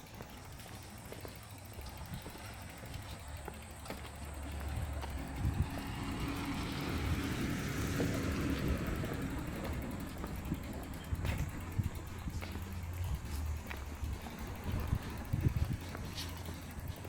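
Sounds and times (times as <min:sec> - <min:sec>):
car passing: 0:02.4 - 0:17.0.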